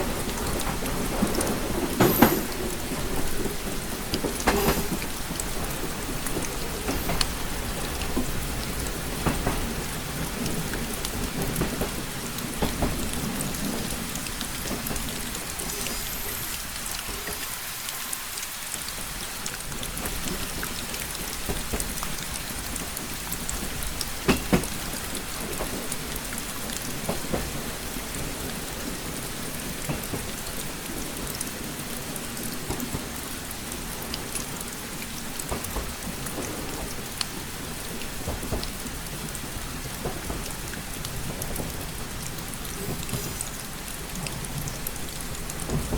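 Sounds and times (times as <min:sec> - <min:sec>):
rain tapping on window: 0:00.0 - 0:45.9.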